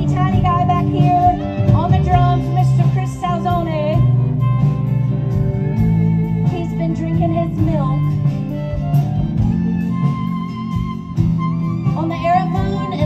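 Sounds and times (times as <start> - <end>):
live band playing: 0.0 - 13.0
wind instrument melody: 0.0 - 13.0.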